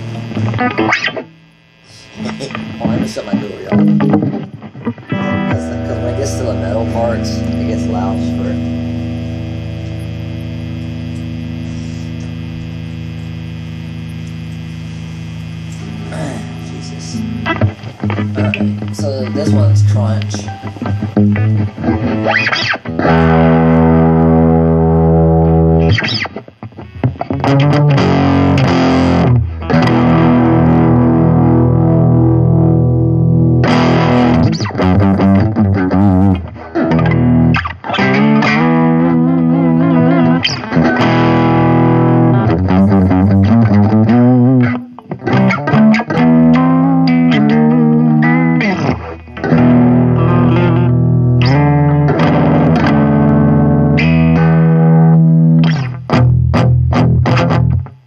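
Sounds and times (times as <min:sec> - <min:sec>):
distorted electric guitar chords: 0:00.0 - 0:58.0.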